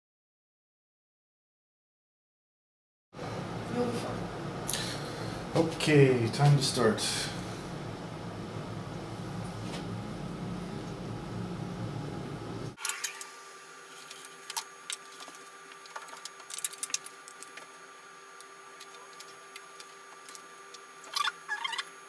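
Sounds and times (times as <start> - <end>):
steady hum and hiss: 3.2 - 22.0.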